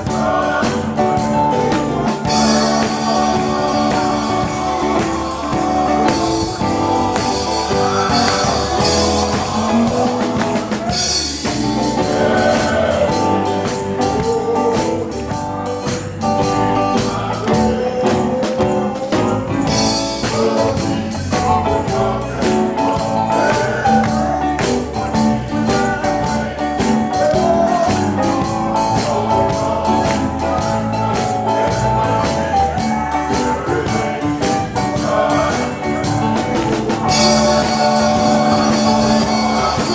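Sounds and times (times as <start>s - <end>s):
drum kit beat: 0.0s - 39.9s
electric guitar: 0.0s - 39.9s
gospel quartet music: 0.0s - 39.9s.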